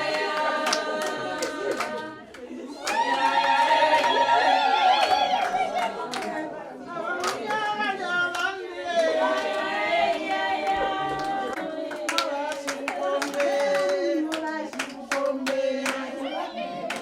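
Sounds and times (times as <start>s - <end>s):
group of voices singing: 0.0s - 17.0s
rhythmic handclapping: 0.0s - 17.0s.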